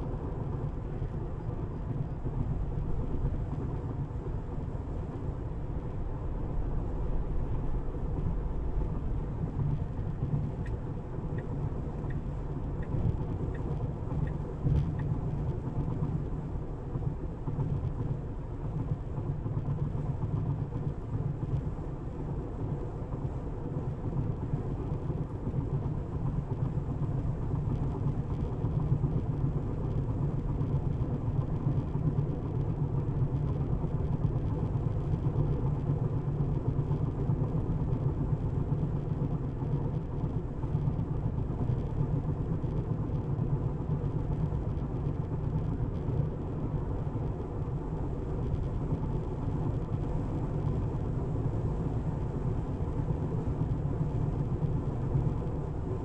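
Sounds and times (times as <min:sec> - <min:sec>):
electric car road and tyre rumble: 0:00.0 - 0:56.0.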